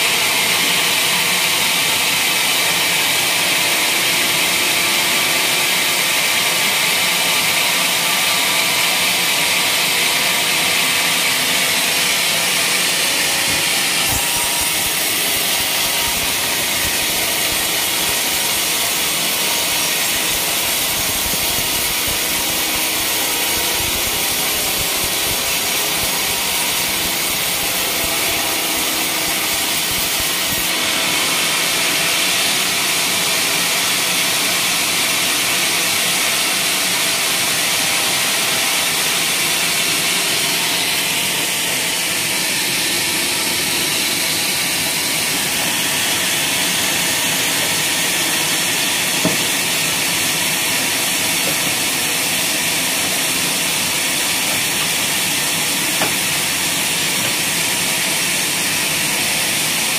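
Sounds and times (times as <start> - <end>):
band saw blade cutting log: 0.0 - 59.9.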